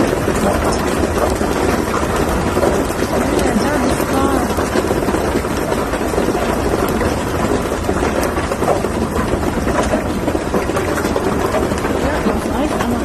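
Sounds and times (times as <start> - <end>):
hailstones pelting down: 0.0 - 13.0
wind buffeting microphone: 0.0 - 13.0.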